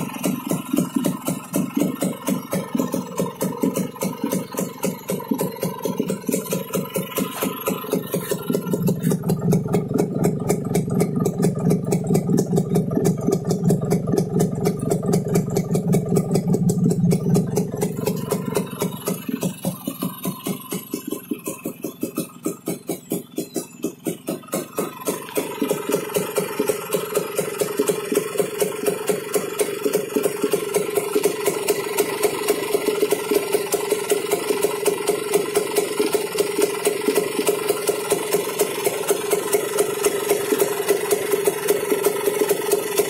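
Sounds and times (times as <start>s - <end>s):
small engine idling: 0.0s - 43.0s.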